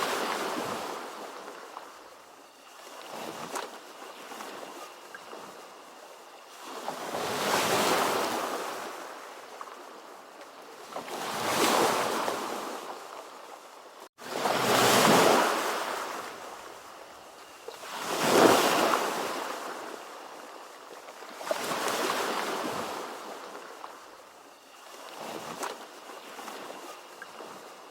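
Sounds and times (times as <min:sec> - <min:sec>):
ocean waves breaking: 0:00.0 - 0:10.0, 0:10.6 - 0:16.8, 0:17.6 - 0:24.1.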